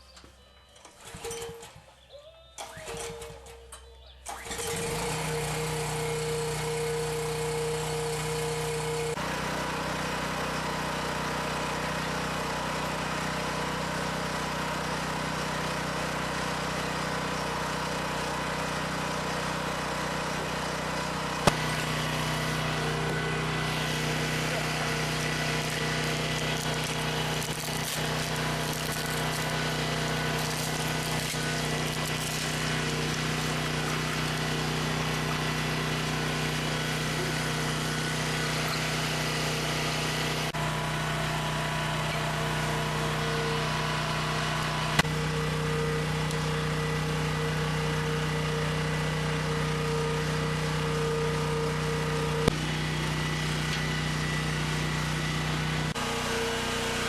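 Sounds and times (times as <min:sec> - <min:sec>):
small generator engine running: 0:00.0 - 0:57.0.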